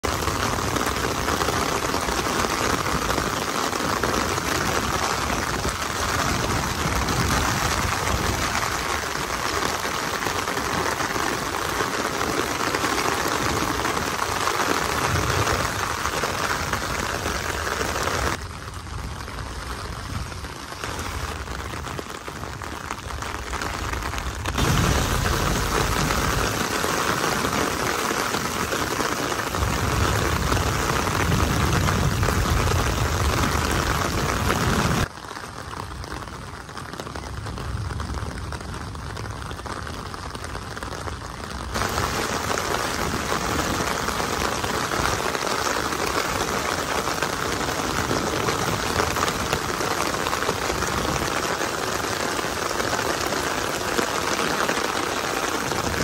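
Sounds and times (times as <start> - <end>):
heavy rain on wet street: 0.0 - 56.0.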